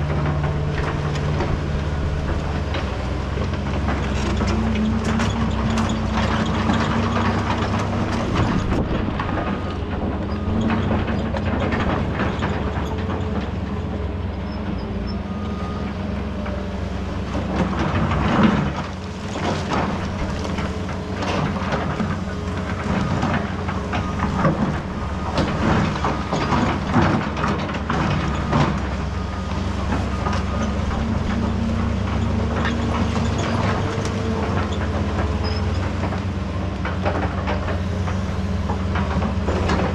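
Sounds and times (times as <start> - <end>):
heavy diesel equipment running: 0.0 - 39.9.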